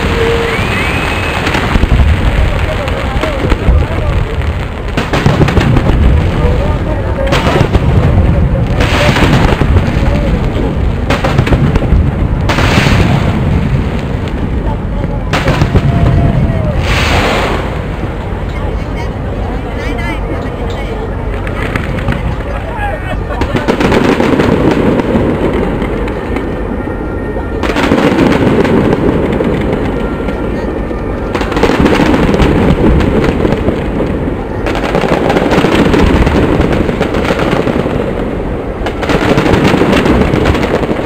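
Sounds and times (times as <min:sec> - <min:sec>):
sharp firework bangs: 0:00.0 - 0:18.2, 0:23.3 - 0:26.5, 0:27.6 - 0:30.6, 0:31.3 - 0:41.0
firework shells booming: 0:00.0 - 0:18.4, 0:23.3 - 0:26.7, 0:27.6 - 0:30.6, 0:31.2 - 0:41.0.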